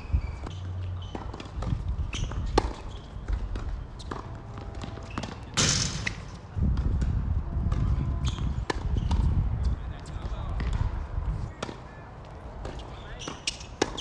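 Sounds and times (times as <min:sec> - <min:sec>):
tennis ball bouncing: 0:00.4 - 0:09.4, 0:10.0 - 0:11.8, 0:12.5 - 0:14.0.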